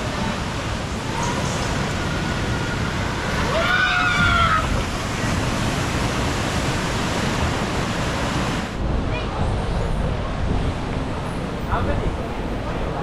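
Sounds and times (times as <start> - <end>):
water rushing along slide: 0.0 - 13.0.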